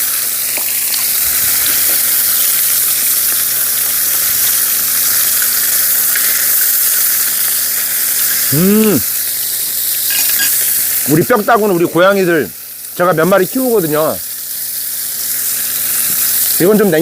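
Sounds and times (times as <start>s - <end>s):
meat sizzling on hot metal: 0.0s - 17.0s.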